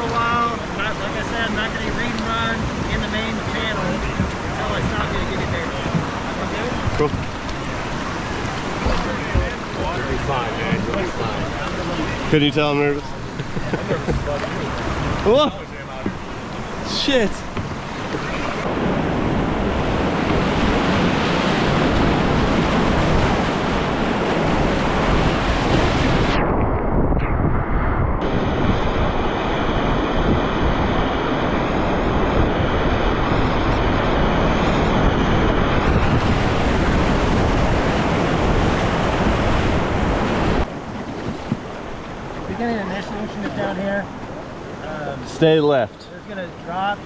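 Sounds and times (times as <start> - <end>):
whitewater rapids rushing: 0.0 - 26.4, 28.2 - 47.0.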